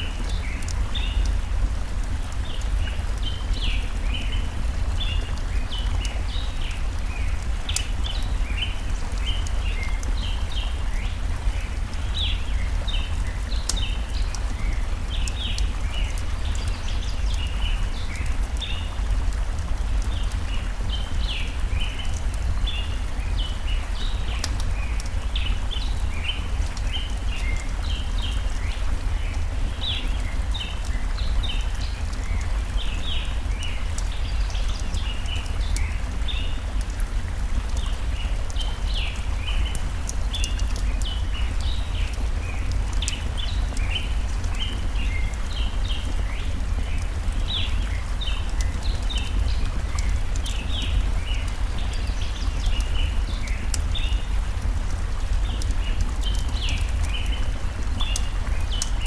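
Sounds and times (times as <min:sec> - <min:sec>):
campfire crackling: 0:00.0 - 0:59.0
stream flowing: 0:00.0 - 0:59.0.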